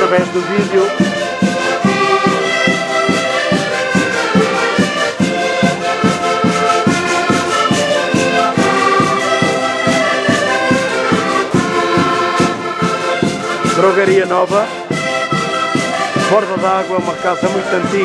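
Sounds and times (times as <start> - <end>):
concertinas playing a lively tune: 0.0 - 18.0.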